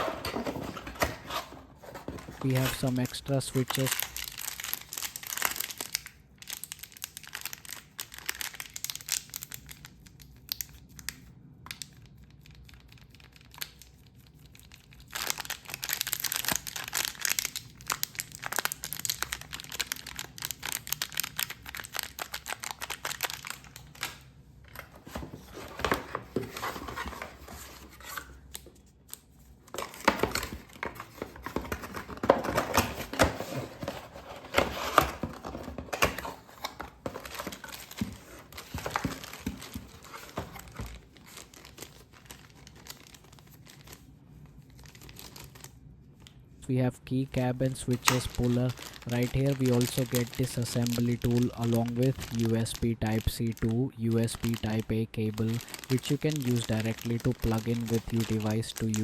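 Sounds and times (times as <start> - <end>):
plastic packaging crinkling: 0.0 - 45.8, 47.4 - 59.0.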